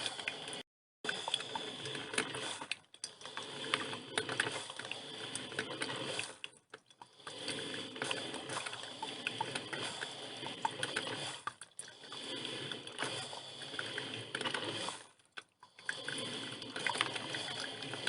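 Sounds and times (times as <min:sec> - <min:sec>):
coffee machine brewing: 0:00.0 - 0:18.0.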